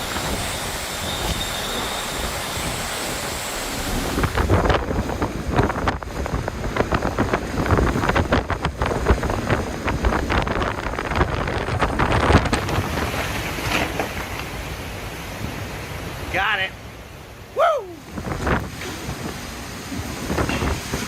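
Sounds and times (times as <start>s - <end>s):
wind buffeting microphone: 0.0s - 16.4s, 17.0s - 21.0s
rain: 0.0s - 21.0s.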